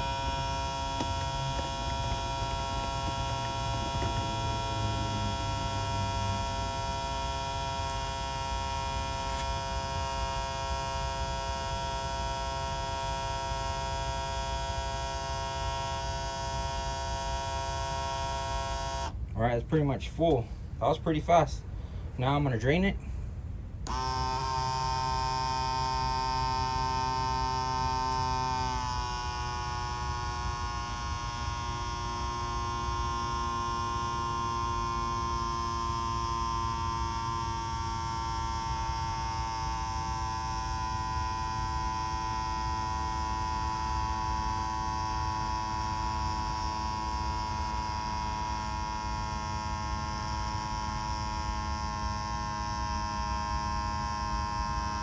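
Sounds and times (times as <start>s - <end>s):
electric fuel pump humming: 0.0s - 19.4s, 23.0s - 55.0s.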